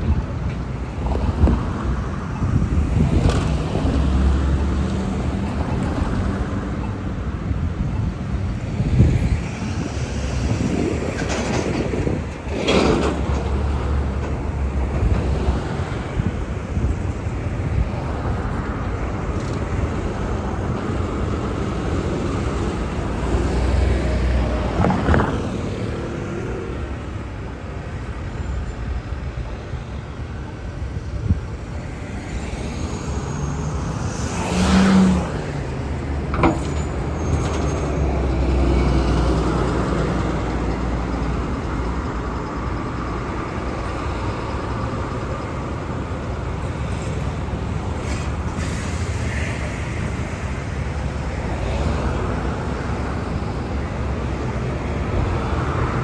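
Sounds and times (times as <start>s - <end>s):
cars and buses passing: 0.0s - 56.0s.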